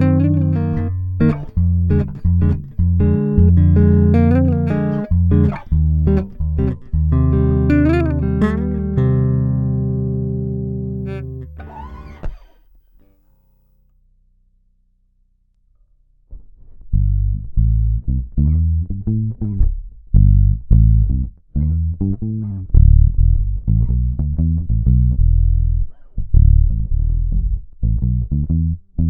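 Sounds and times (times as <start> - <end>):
plucked electric bass notes: 0.0 - 12.5, 16.3 - 29.0.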